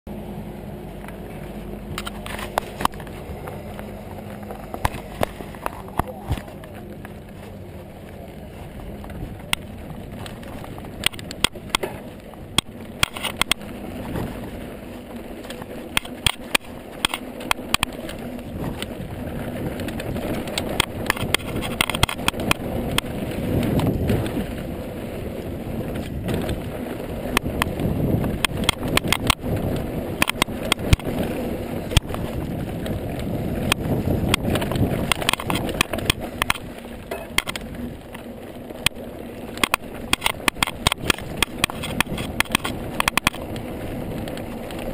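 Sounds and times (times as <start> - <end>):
bike tyres on loose dirt: 0.1 - 44.9
bike clicks and rattles: 1.0 - 44.9
wind on microphone: 1.8 - 44.9.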